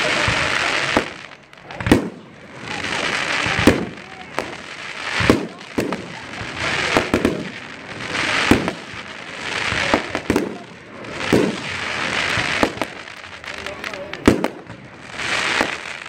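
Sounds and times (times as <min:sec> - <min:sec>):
fireworks bursting with sharp bangs: 0:00.0 - 0:16.0
hiss of burning fireworks stars: 0:00.0 - 0:16.0.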